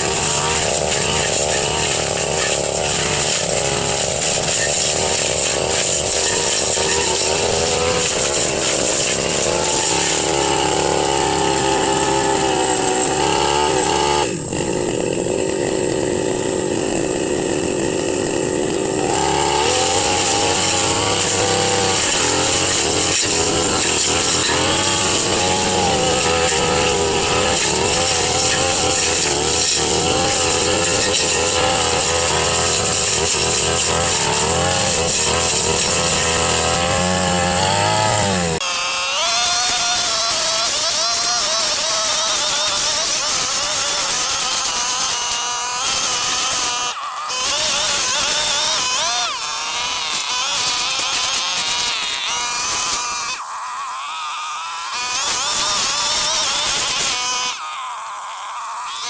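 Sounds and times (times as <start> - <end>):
brush cutter engine at high revs: 0.0 - 59.0.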